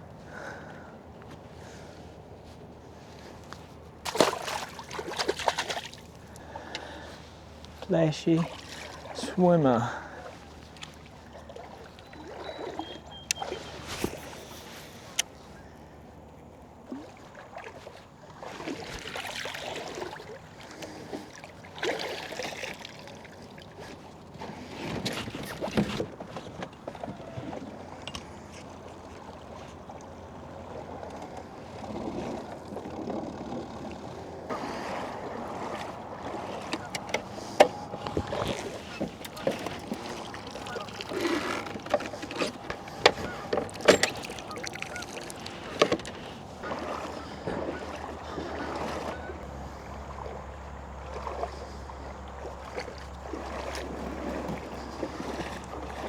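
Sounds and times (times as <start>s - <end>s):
water swishes and splashes: 0.0s - 56.0s.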